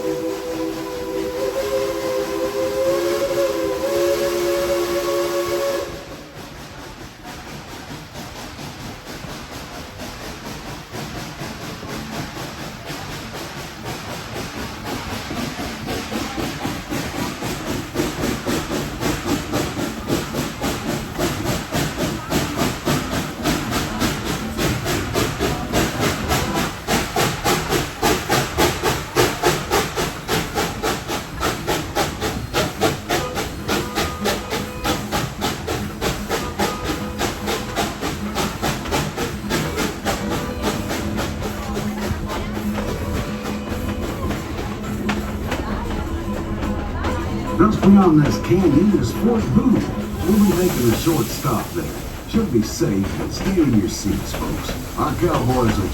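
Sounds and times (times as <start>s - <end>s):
steam locomotive exhaust chuffs: 0.0s - 55.9s.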